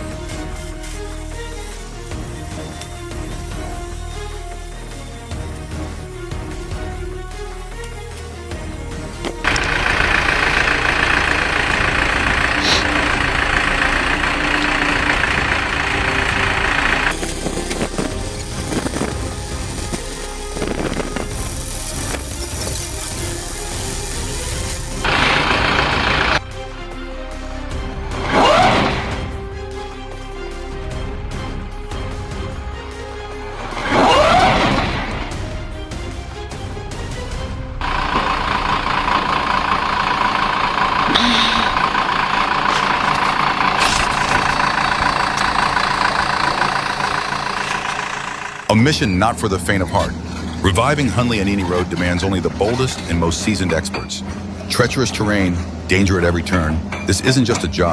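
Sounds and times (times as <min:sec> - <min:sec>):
machine engine running: 0:00.0 - 0:26.4, 0:33.6 - 0:57.8
background music: 0:00.0 - 0:47.2, 0:48.7 - 0:57.9.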